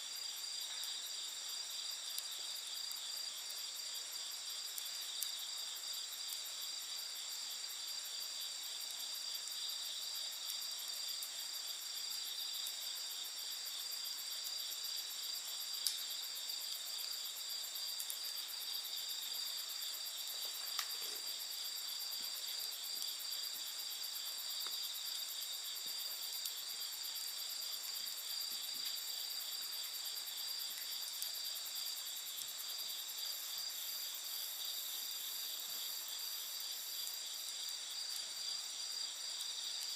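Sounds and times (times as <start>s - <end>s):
campfire crackling: 0.0s - 39.9s
night insects trilling: 0.0s - 39.9s.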